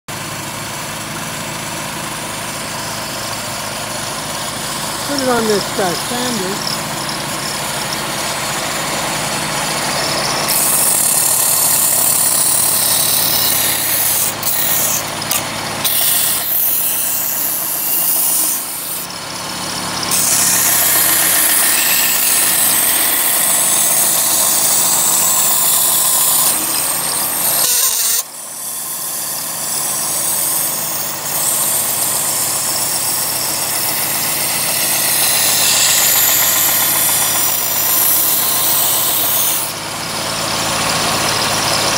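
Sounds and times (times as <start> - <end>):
generator engine hum: 0.1 - 17.8, 18.5 - 27.6, 32.0 - 41.9
belt sander motor hum: 0.2 - 41.9.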